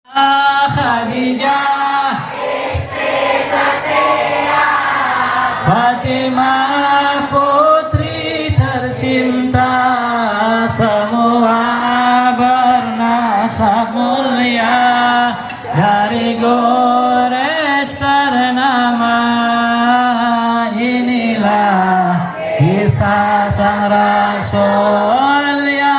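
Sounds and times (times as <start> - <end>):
voices singing devotional chant: 0.1 - 25.9.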